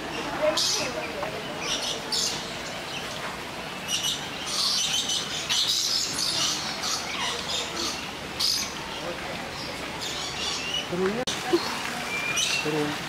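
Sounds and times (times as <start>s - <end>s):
birds squawking and chattering: 0.0s - 13.0s.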